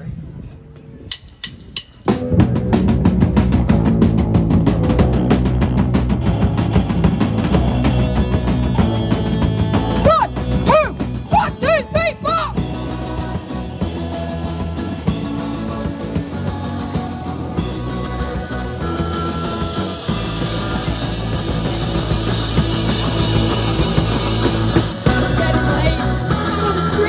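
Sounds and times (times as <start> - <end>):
drums: 0.0 - 27.0
bass guitar: 1.0 - 27.0
electric guitars: 2.1 - 27.0.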